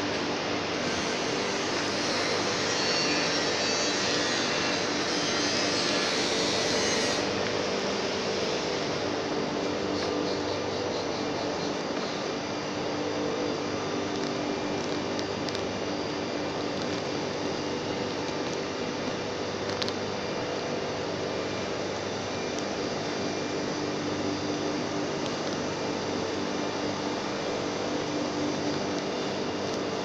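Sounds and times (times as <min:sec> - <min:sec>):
industrial machinery drone: 0:00.0 - 0:30.0.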